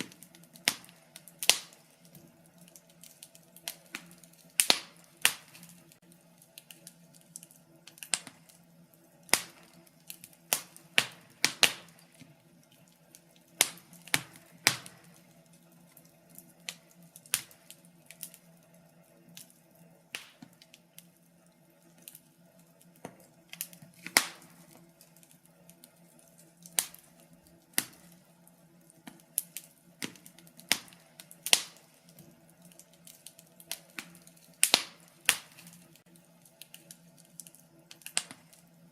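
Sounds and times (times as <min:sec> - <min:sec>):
sharp pops of fire: 0:00.0 - 0:08.6, 0:09.2 - 0:15.4, 0:16.2 - 0:18.5, 0:19.3 - 0:21.1, 0:22.8 - 0:26.0, 0:26.6 - 0:28.3, 0:28.9 - 0:38.7
low steady hum: 0:00.0 - 0:38.9
wood fire crackling: 0:00.0 - 0:38.9.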